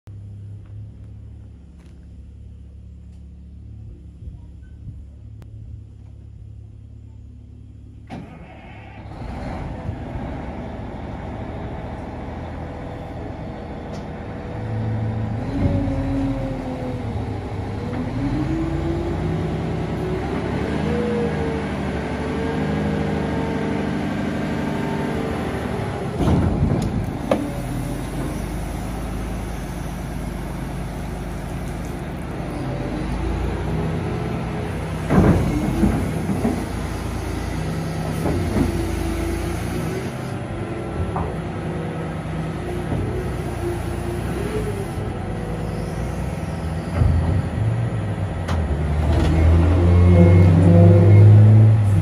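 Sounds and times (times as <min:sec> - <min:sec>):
diesel engine idling and revving: 0:00.1 - 0:52.0.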